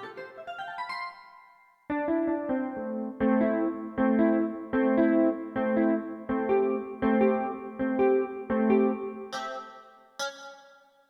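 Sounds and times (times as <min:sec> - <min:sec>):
synthesizer keyboard chords: 0:00.0 - 0:11.0.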